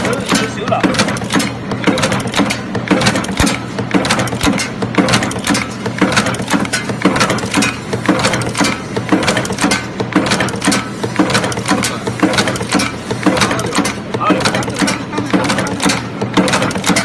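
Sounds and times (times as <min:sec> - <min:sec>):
machine clattering strokes: 0:00.0 - 0:17.0
steady mechanical hum: 0:00.0 - 0:17.0.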